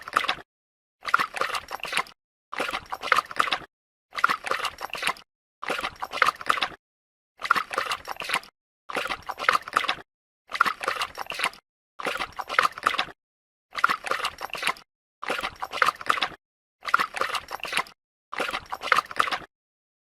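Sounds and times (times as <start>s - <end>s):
dog lapping water: 0.0s - 0.4s, 1.0s - 6.8s, 7.4s - 19.5s.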